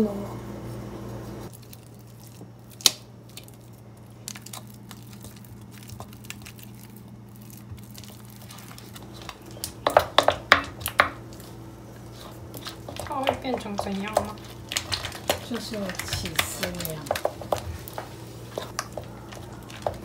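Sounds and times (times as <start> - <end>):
butter squishing in bowl: 1.2 - 20.0.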